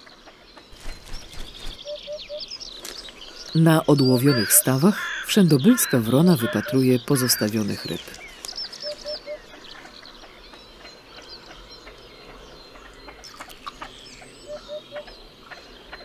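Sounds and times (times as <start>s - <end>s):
birds chirping and whistling: 0.6s - 16.0s.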